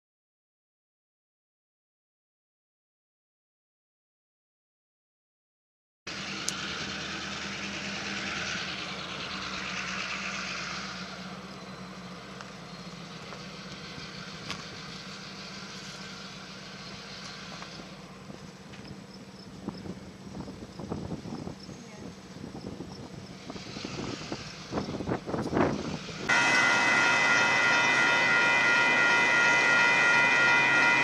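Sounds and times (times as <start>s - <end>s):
low engine hum: 6.1s - 31.0s.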